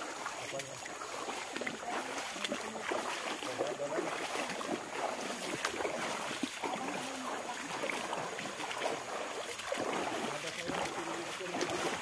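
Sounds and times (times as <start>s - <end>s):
people wading through stream: 0.0s - 12.0s.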